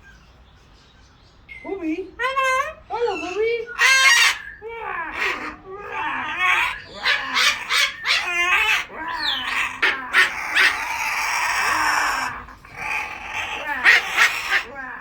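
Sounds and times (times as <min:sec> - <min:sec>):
cockatoo squawking: 0:02.1 - 0:15.0.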